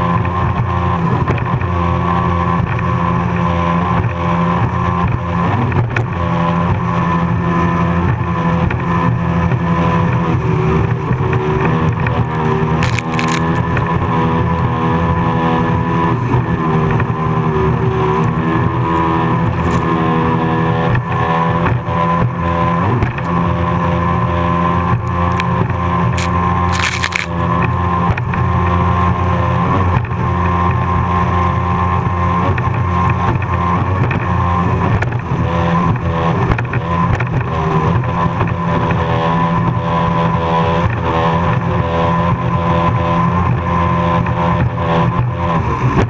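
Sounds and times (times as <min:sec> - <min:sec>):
powerboat engine droning: 0:00.0 - 0:46.0.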